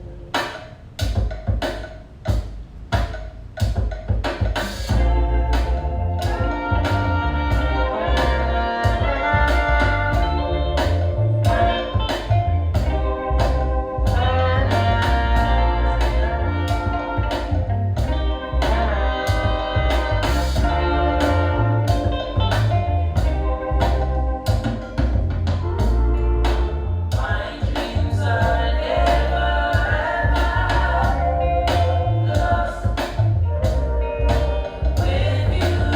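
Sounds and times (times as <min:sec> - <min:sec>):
music with drum beat and heavy bass: 0:00.0 - 0:35.9.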